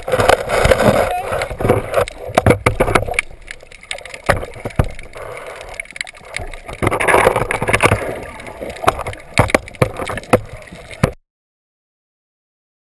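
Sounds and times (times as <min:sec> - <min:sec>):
underwater rushing water: 0:00.0 - 0:11.2.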